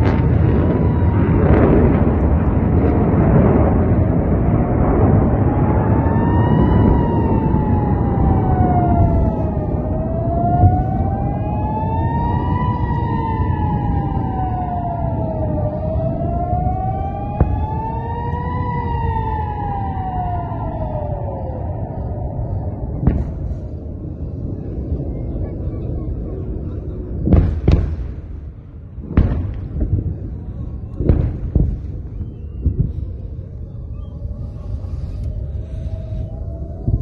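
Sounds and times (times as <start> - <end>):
air-raid siren wailing: 0.0 - 37.0
distant explosions booming: 0.0 - 37.0
steady low rumble: 0.0 - 37.0.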